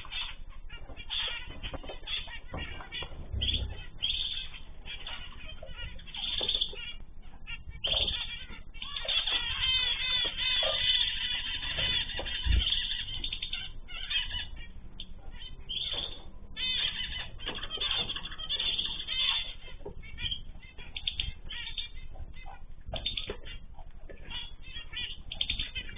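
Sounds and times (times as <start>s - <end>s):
cage birds chirping and singing: 0.0s - 25.9s.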